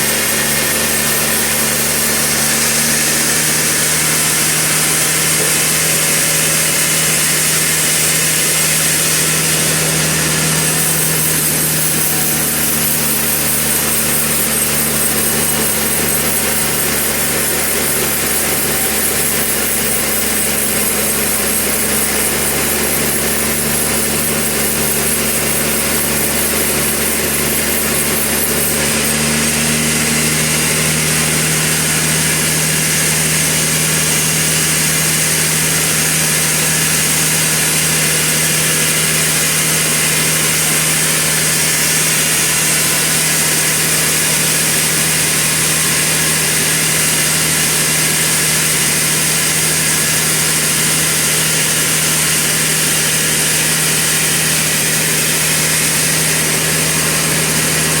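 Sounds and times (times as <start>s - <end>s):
saw hissing through log: 0.0s - 58.0s.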